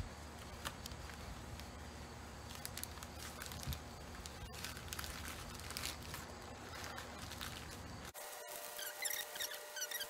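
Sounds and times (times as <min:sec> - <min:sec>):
contact paper peeling and crinkling: 0:00.2 - 0:10.0.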